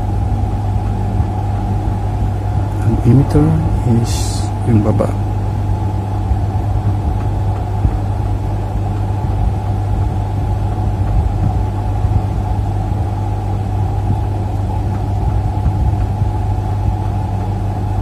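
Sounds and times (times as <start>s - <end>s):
steady low hum and rumble: 0.0s - 18.0s.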